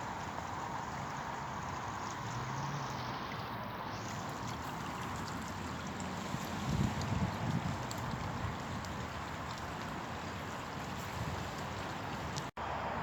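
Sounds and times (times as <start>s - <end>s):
rushing stream water: 0.0s - 13.0s.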